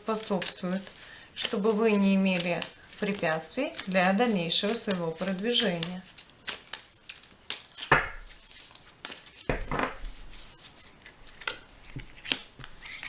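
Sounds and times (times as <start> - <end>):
cards shuffling: 0.1 - 13.0.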